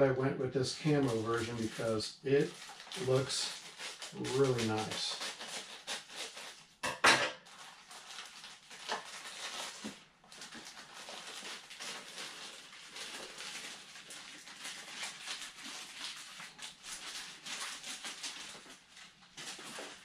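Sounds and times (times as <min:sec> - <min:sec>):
plastic packaging crinkling: 0:00.8 - 0:06.8, 0:07.4 - 0:20.0.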